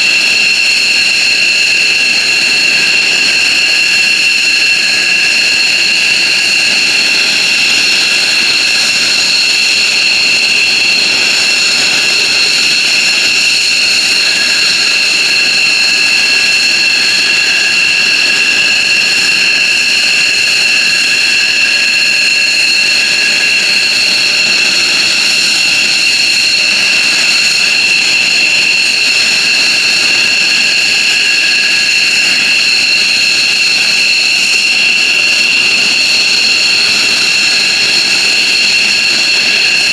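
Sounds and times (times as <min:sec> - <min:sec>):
jet engine turbine whine: 0:00.0 - 0:39.9.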